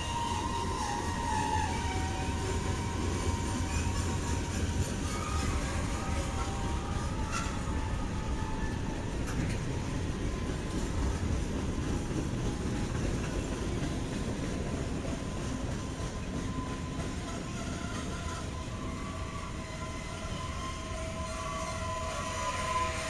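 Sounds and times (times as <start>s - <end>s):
freight train cars rumbling: 0.0s - 23.0s.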